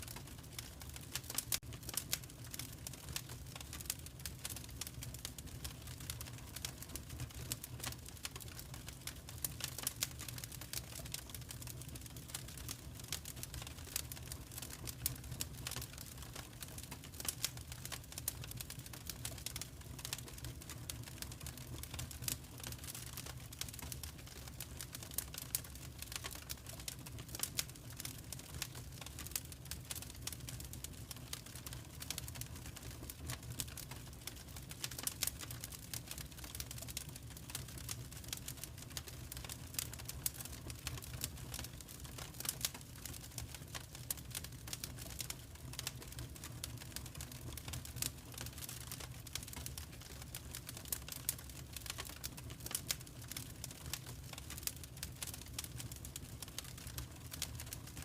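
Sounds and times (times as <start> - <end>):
fire rumbling: 0.0 - 58.0
wood fire crackling and popping: 0.0 - 58.0.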